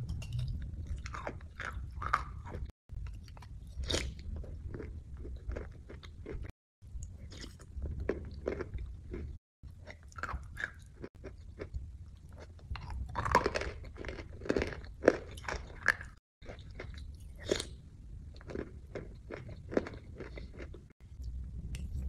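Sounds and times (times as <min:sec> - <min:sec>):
crunchy chewing: 0:00.8 - 0:06.5, 0:07.3 - 0:20.9.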